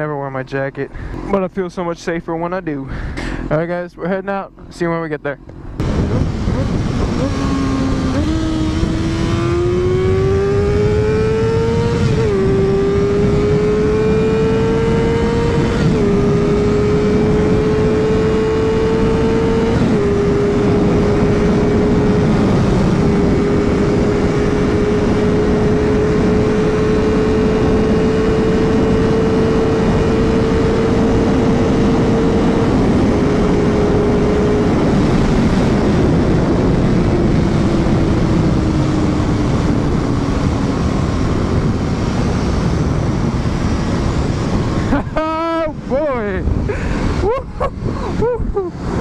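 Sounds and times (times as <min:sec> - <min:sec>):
wind rush: 0:00.0 - 0:49.0
motorcycle engine running: 0:05.4 - 0:47.4.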